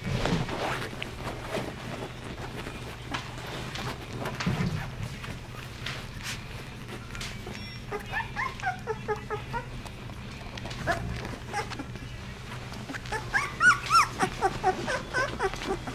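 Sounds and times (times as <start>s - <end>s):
puppies whimpering and squealing: 0.3s - 15.9s.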